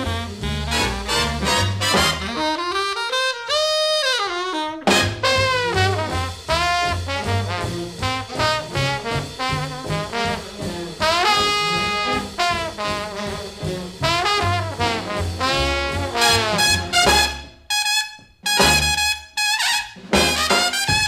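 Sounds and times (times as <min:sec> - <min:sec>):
up-tempo instrumental jazz: 0:00.0 - 0:21.0.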